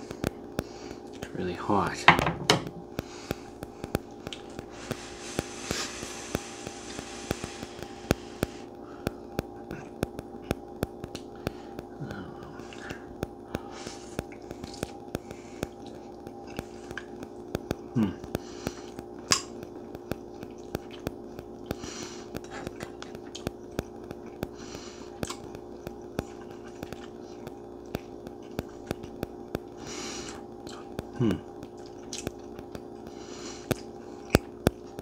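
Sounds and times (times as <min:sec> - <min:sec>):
steady hum: 0:00.0 - 0:35.0
slurping and chewing noodles: 0:03.0 - 0:35.0.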